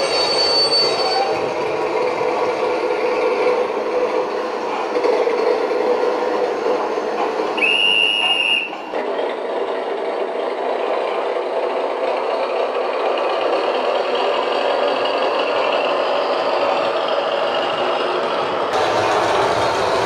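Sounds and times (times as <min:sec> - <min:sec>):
model train running on track: 0:00.0 - 0:20.0
diesel engine running: 0:01.4 - 0:20.0.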